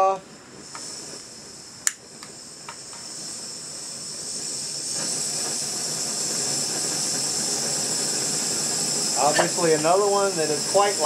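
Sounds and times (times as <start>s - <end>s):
gas stove burner hissing: 0.0s - 11.0s.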